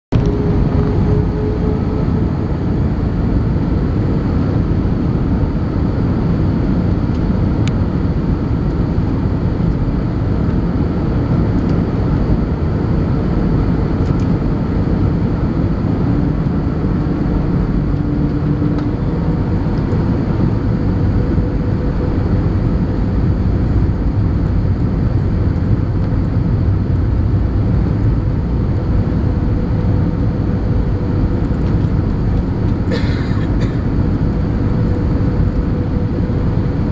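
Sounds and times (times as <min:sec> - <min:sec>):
airflow rush in cabin: 0:00.1 - 0:36.9
jet engine hum: 0:00.1 - 0:36.9.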